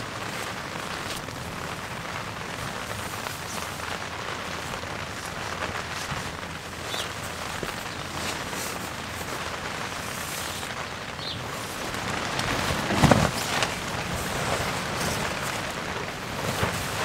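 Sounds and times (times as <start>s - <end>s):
rain pattering on tent: 0.0s - 17.0s
wind buffeting: 0.0s - 17.0s.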